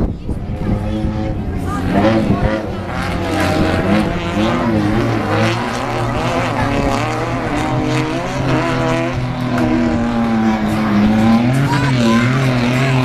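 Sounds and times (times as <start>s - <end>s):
race buggy engine revving: 0.3s - 13.0s.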